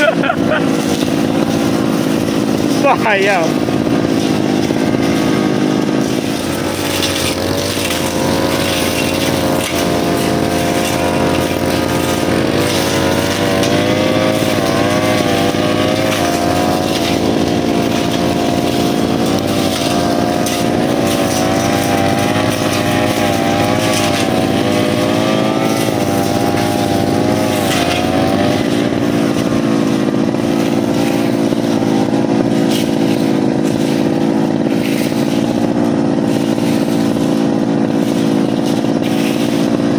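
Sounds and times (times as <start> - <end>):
brushcutter engine running: 0.0 - 39.9.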